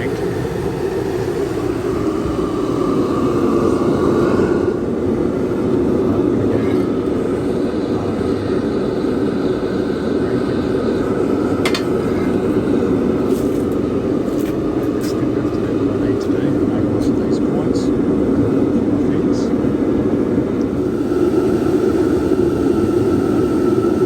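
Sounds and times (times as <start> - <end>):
electric blower fan roaring: 0.0 - 24.0.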